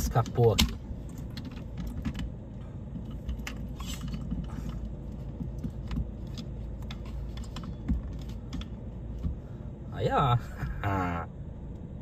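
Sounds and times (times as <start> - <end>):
air conditioning running: 0.0 - 12.0
car engine rumble: 0.0 - 12.0.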